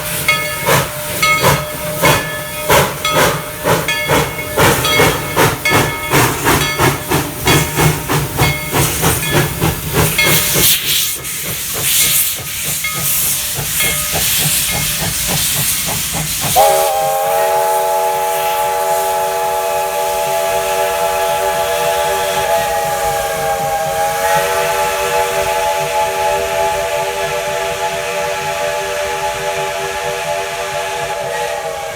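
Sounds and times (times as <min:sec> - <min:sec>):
steam hiss: 0:00.0 - 0:31.9
steam locomotive chuffing: 0:00.0 - 0:31.9.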